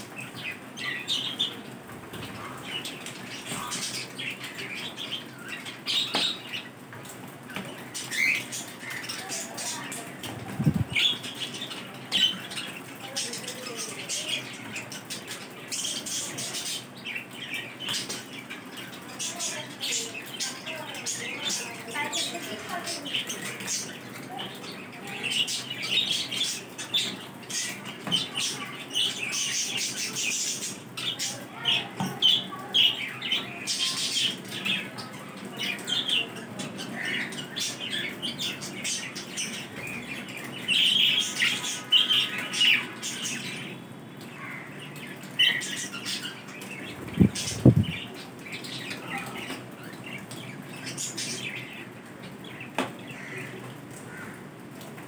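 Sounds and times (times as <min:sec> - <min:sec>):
budgerigars chirping and chattering: 0:00.0 - 0:53.5.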